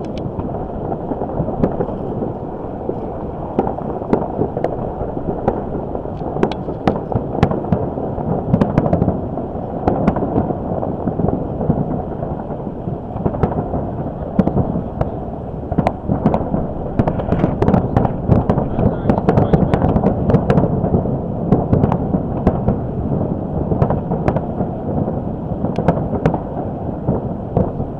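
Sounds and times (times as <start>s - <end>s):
fireworks cracking and popping: 0.0s - 27.9s
low rumble of booms: 0.0s - 27.9s
wind on microphone: 0.0s - 27.9s.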